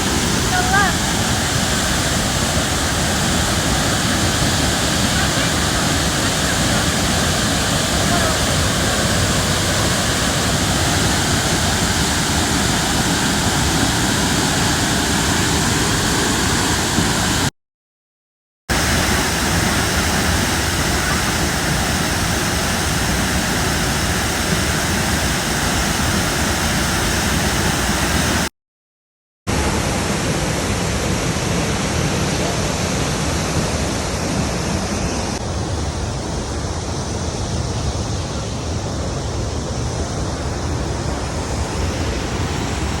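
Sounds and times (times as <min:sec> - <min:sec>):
waterfall rushing: 0:00.0 - 0:17.5, 0:18.7 - 0:28.5, 0:29.5 - 0:43.0.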